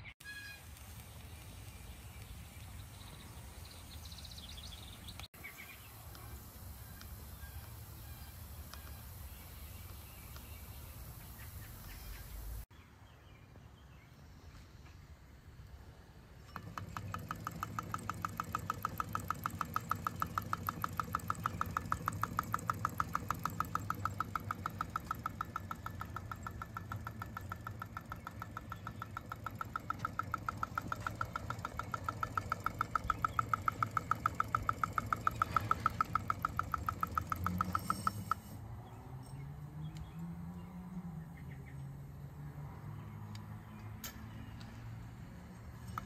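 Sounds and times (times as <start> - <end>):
engine fast even ticking: 0.0 - 12.7, 16.4 - 42.0, 44.6 - 46.0.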